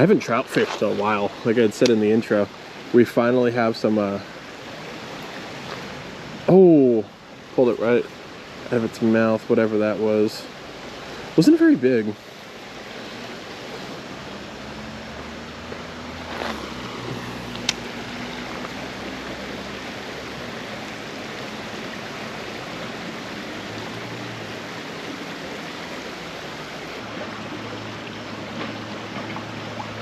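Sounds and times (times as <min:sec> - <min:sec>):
creek water running: 0:00.0 - 0:30.0.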